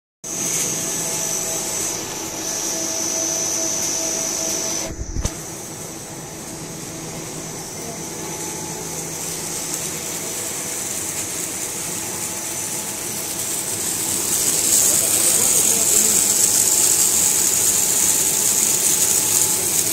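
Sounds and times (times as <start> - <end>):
high steady whine: 0.2 - 19.9
machine noise: 0.2 - 19.9.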